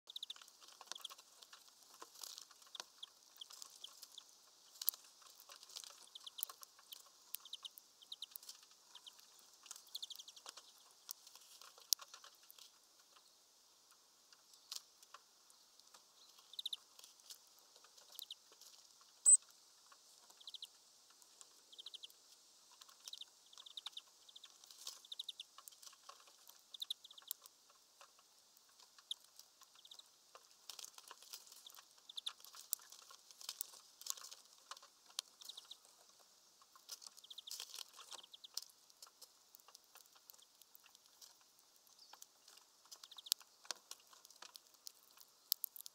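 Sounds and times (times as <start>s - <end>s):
small birds chirping: 0.0s - 45.9s
birds pecking clicks: 0.1s - 13.3s, 13.9s - 45.9s.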